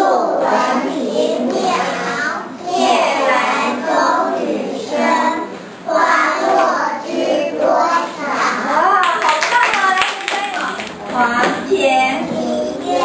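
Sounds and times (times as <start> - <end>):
young children singing: 0.0 - 13.0.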